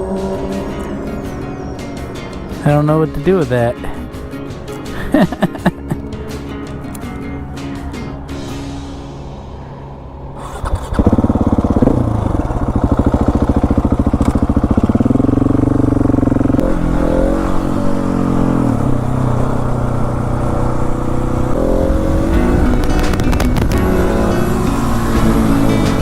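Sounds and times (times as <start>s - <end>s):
motorcycle engine revving: 0.0s - 8.7s, 10.4s - 26.0s.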